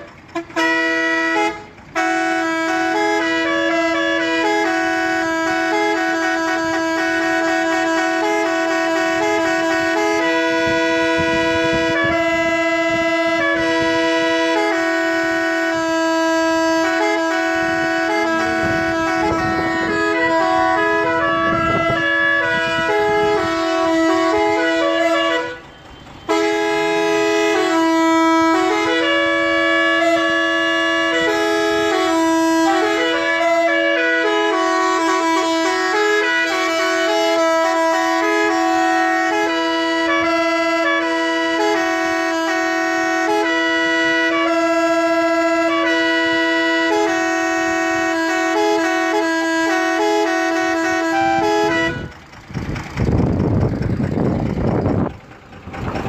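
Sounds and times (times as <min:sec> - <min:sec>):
gourd pipe melody over drone: 0:02.0 - 0:53.0.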